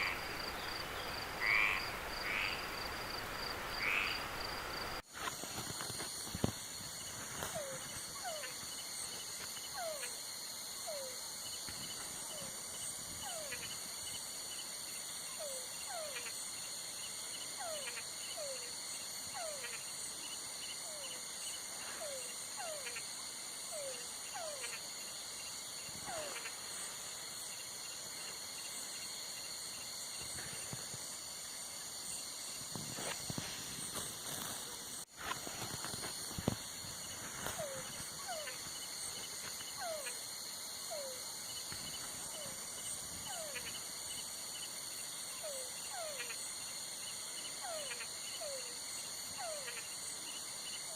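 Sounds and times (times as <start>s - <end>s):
crickets trilling: 0.0s - 50.9s
frogs calling: 0.0s - 50.9s.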